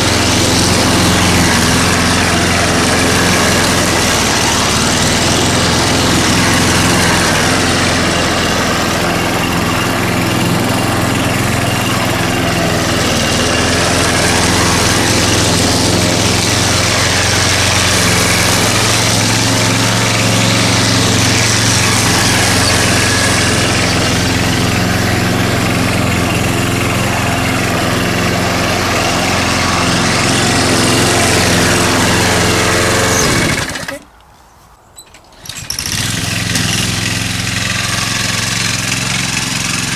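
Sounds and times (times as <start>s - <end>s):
lawn mower engine running: 0.0s - 34.1s, 35.0s - 39.9s.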